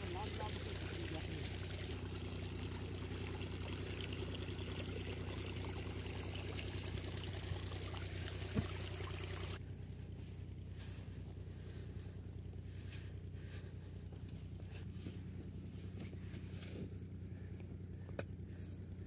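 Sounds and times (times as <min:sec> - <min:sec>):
steady low hum: 0:00.0 - 0:19.0
water running along a channel: 0:00.0 - 0:19.0.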